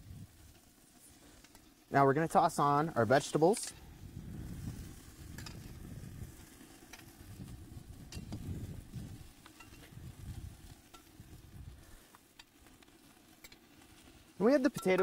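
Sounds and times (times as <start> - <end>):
vegetables sizzling on a grill: 0.0 - 15.0.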